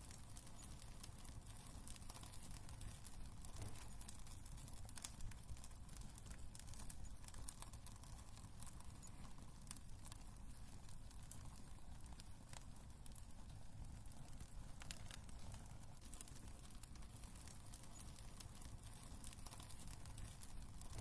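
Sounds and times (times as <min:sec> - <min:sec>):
low rumble of flames: 0:00.0 - 0:21.0
pops and snaps of burning logs: 0:00.0 - 0:21.0
wood fire crackling: 0:00.0 - 0:21.0.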